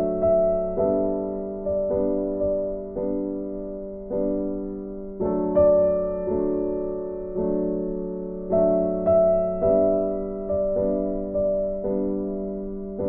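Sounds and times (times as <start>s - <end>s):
soft slow piano chords: 0.0s - 13.0s.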